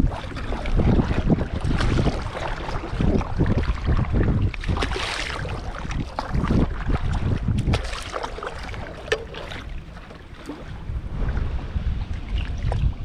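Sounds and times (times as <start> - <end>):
paddle strokes splashing: 0.0 - 11.4
wind buffeting microphone: 0.0 - 13.0.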